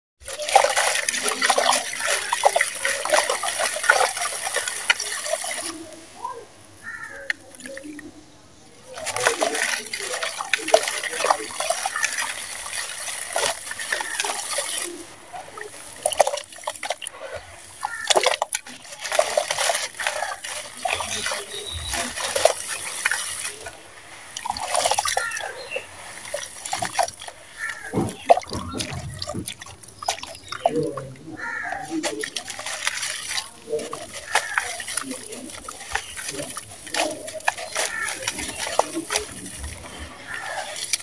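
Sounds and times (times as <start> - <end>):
crumbs splashing into water: 0.2 - 6.2, 6.8 - 8.1, 8.8 - 41.0.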